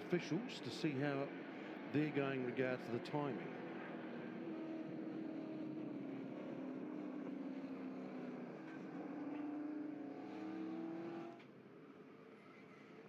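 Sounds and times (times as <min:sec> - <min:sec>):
race cars passing: 0:00.0 - 0:13.0.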